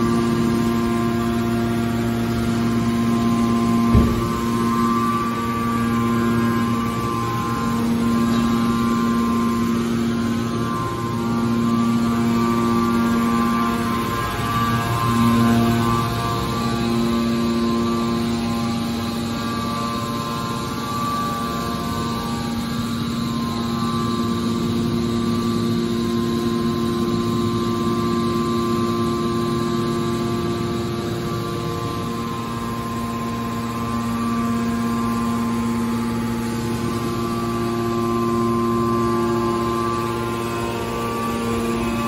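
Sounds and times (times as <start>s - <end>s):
hydraulic pump motor humming: 0.0s - 42.0s
whining tones: 0.0s - 42.0s.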